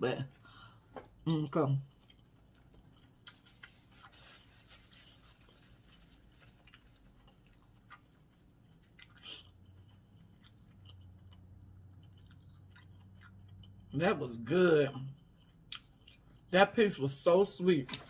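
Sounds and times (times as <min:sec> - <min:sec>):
faint chewing: 0:00.3 - 0:14.0, 0:15.1 - 0:16.5.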